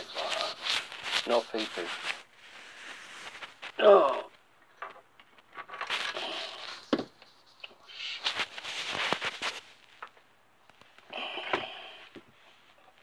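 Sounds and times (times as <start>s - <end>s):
rustling handling noise: 0.0s - 11.1s.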